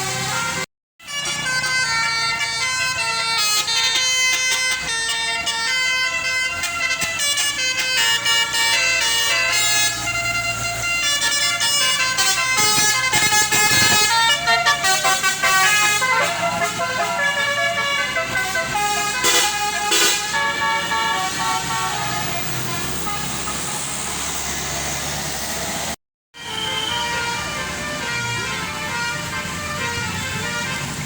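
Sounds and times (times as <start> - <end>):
bus horn tooting melody: 0.0 - 24.4, 26.4 - 31.0
bus engine: 0.0 - 31.0.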